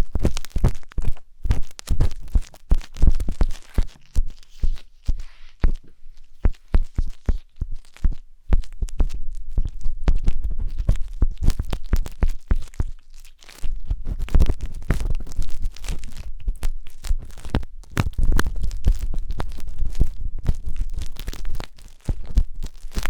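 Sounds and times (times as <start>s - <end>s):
skewer scratching microphone: 0.0s - 23.0s.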